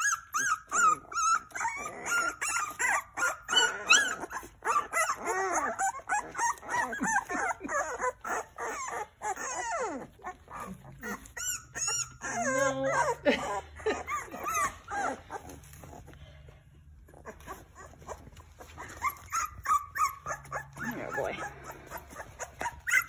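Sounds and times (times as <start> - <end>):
puppies whimpering and yelping: 0.0 - 23.0.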